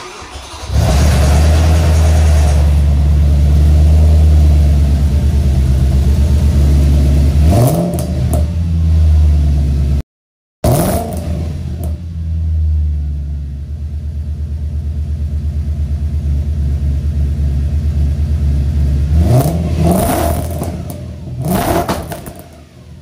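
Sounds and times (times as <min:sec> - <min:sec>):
car engine idling and revving: 0:00.0 - 0:10.0, 0:10.6 - 0:23.0.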